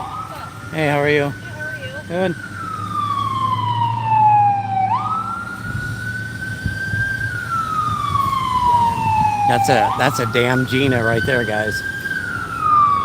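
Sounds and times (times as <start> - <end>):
emergency siren wailing: 0.0 - 13.0.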